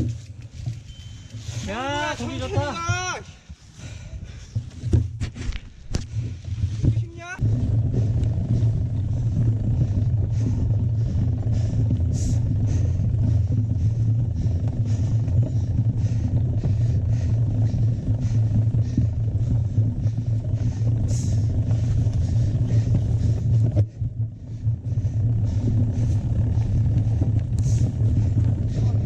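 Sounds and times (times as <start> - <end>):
bike riding rumble: 0.0 - 29.0.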